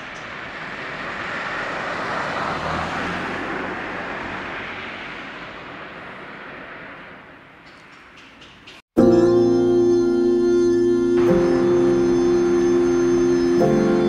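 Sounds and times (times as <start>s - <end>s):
vehicle passing: 0.0s - 8.7s, 10.8s - 14.0s.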